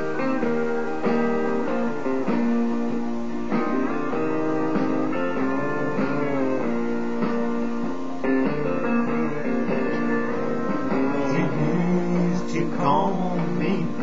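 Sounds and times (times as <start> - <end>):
country guitar instrumental: 0.0 - 14.0.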